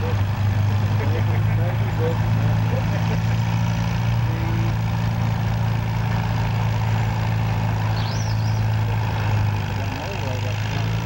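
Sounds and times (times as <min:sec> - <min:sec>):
tractor engine drone: 0:00.0 - 0:11.0.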